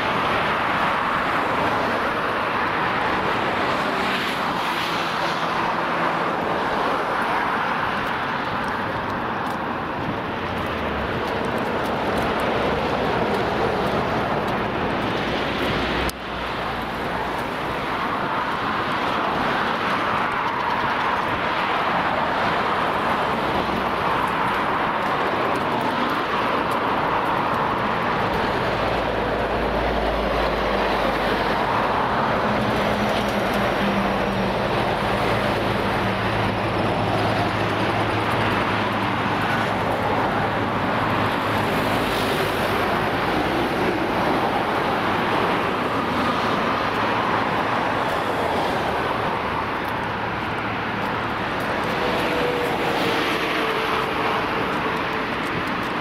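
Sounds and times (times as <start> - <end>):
road traffic: 0.0 - 56.0
vehicle engine drone: 0.0 - 56.0.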